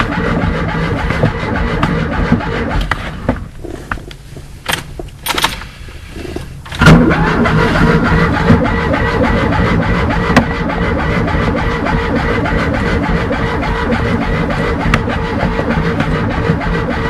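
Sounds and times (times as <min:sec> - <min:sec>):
car engine starting: 0:00.0 - 0:17.0.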